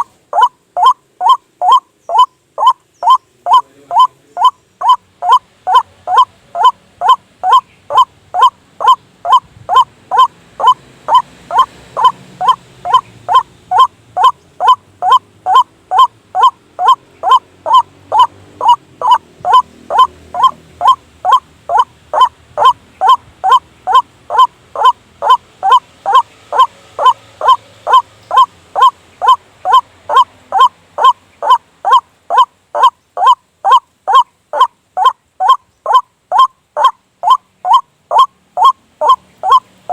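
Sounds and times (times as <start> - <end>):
bird call repeated: 0.0 - 39.6.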